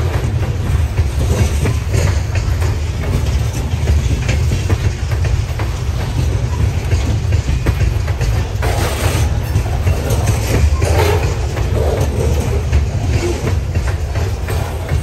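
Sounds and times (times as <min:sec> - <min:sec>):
freight train rumbling past: 0:00.0 - 0:15.0
wheels clicking and clanking: 0:00.0 - 0:15.0.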